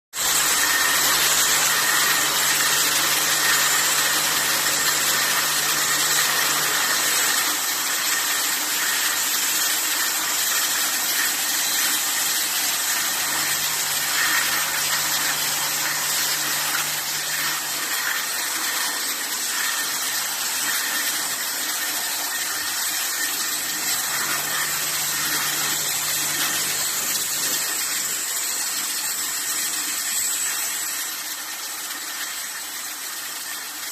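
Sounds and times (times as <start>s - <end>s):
machinery hissing: 0.2s - 29.7s.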